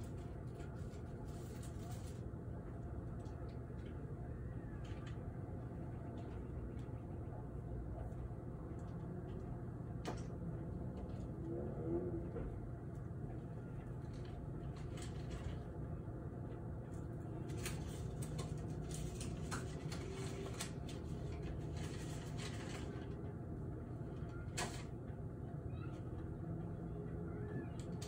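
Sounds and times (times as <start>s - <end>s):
low city rumble: 0.0s - 28.0s.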